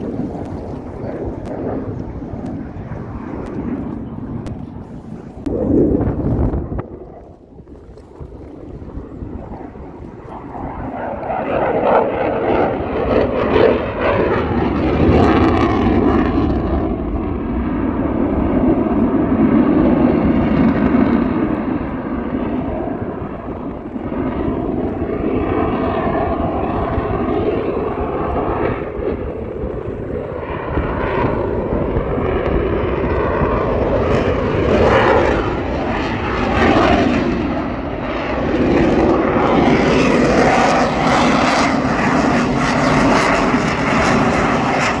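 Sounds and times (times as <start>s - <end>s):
airplane engine flying past: 0.0s - 45.0s.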